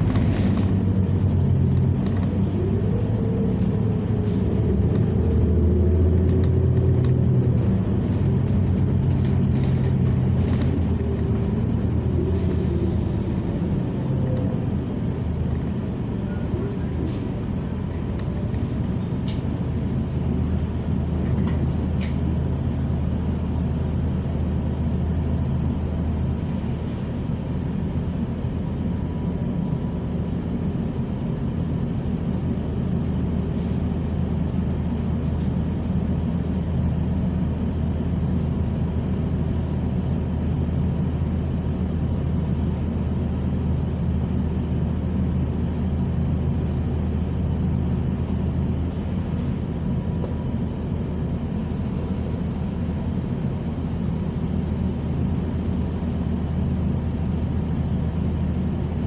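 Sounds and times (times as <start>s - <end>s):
bus engine and road noise: 0.0s - 59.0s.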